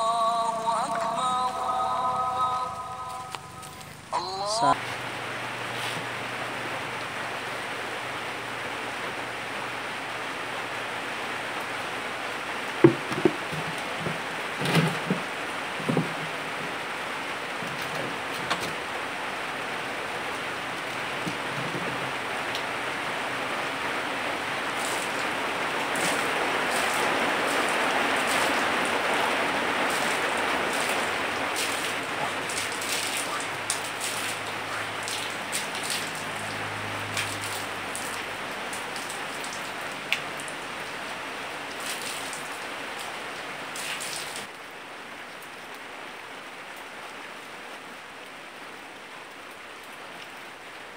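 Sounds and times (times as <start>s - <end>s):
steady rain: 0.0s - 50.9s.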